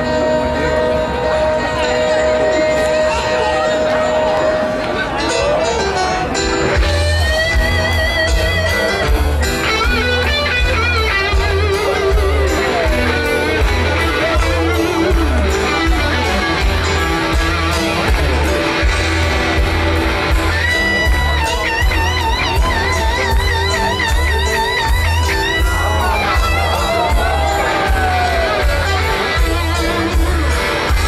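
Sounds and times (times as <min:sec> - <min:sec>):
electric guitar lead notes: 0:00.0 - 0:31.0
live rock band playing: 0:00.0 - 0:31.0.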